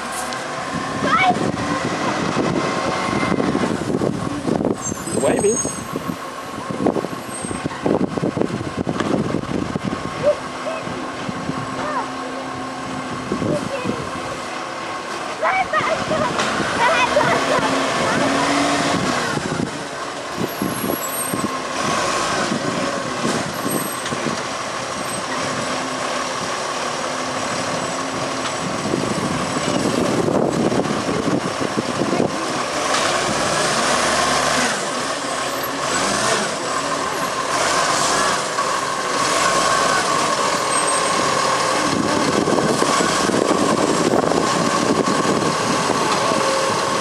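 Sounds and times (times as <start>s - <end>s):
diesel truck engine: 0.0s - 47.0s.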